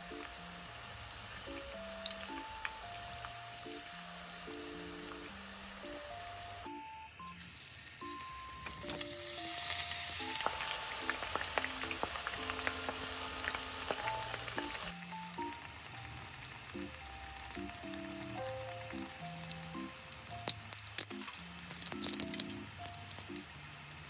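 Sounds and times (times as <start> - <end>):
light background music: 0.0 - 24.0
potato slices sizzling in oil: 0.0 - 24.0.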